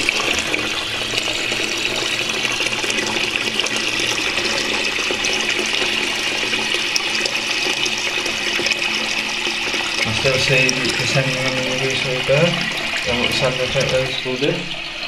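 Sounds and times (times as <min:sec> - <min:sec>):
water hissing into toilet tank: 0:00.0 - 0:15.0.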